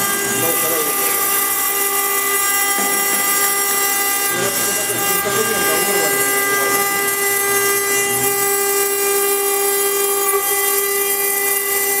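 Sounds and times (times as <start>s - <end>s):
router spindle high-pitched whine: 0.0s - 12.0s.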